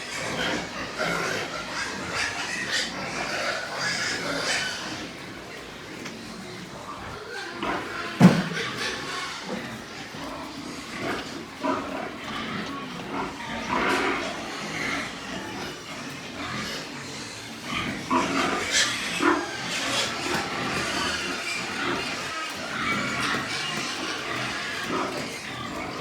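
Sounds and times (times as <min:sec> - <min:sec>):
pigs grunting and calling: 0:00.0 - 0:26.0.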